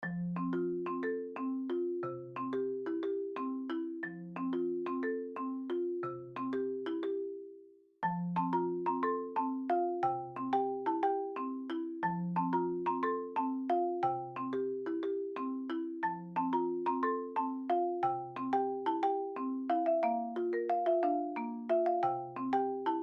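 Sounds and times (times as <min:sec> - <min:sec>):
marimba-like background music: 0:00.0 - 0:23.0.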